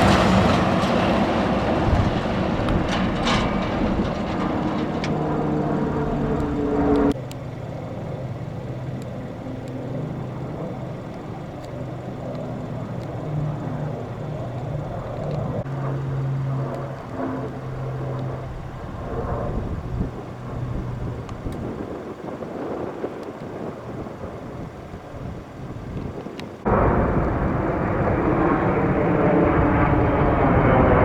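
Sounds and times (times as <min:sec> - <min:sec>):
engines humming: 0:00.0 - 0:31.0
outdoor background noise: 0:00.0 - 0:31.0.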